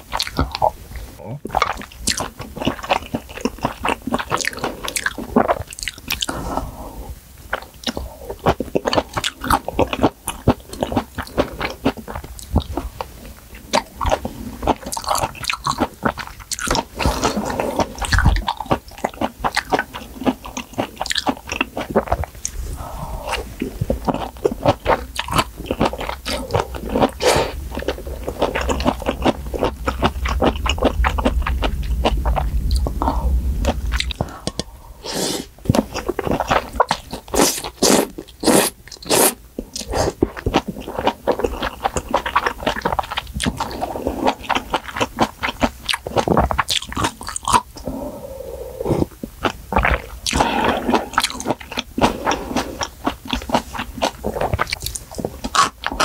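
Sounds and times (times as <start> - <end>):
chewing and biting food: 0.0 - 6.4, 7.5 - 34.7, 35.6 - 48.0, 48.9 - 56.0.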